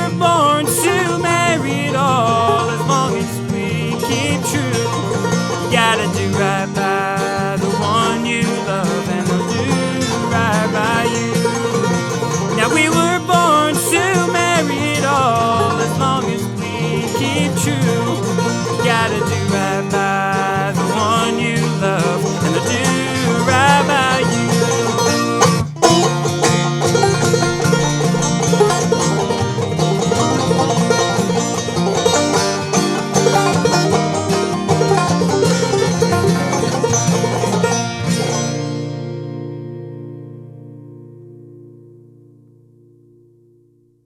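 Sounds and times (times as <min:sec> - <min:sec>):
clawhammer banjo playing: 0:00.0 - 0:41.5.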